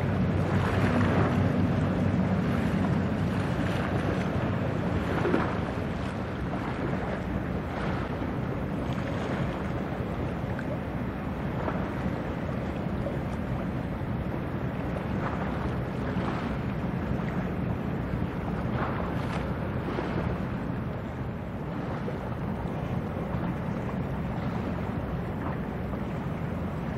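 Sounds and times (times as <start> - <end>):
low rumble of ship: 0.0 - 26.9
wind noise on microphone: 0.0 - 26.9.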